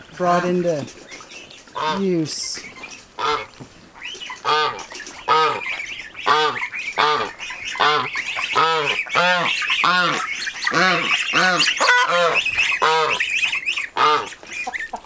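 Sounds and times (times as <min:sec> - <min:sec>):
geese honking: 0:00.0 - 0:15.0
high-pitched peeping and chatter: 0:00.1 - 0:15.0.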